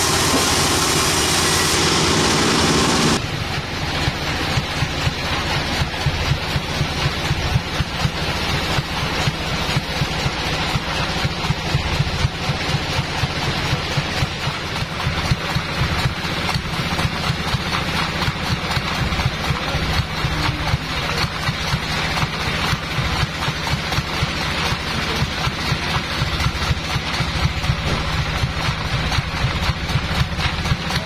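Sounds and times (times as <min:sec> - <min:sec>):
engine idling with pulsing note: 0:00.0 - 0:31.0.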